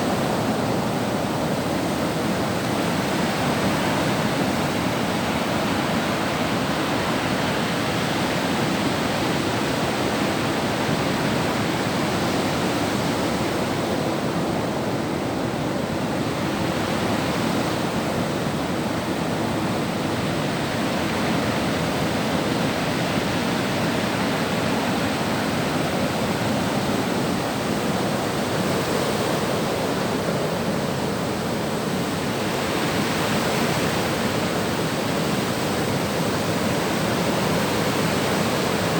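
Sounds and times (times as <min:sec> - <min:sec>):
sea surf washing on shore: 0:00.0 - 0:38.9.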